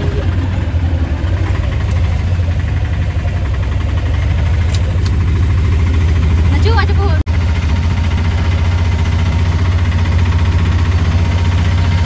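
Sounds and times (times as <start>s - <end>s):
auto-rickshaw engine droning: 0.0s - 12.0s.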